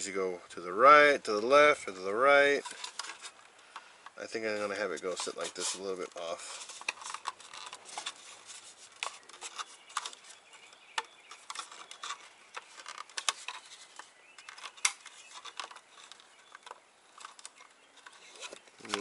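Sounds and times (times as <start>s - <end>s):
small clicks and rubbing: 1.4s - 19.0s.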